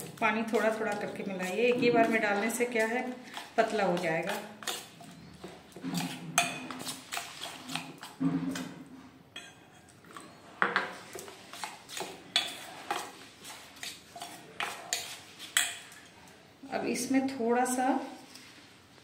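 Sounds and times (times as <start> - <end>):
spoon scraping a steel bowl: 0.0 - 8.8, 9.4 - 16.1.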